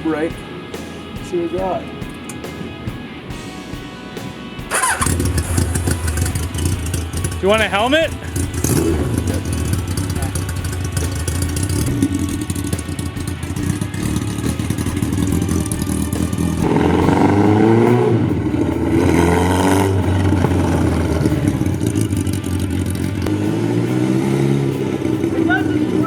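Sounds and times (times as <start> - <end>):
motorcycle engine accelerating: 1.9 - 26.0.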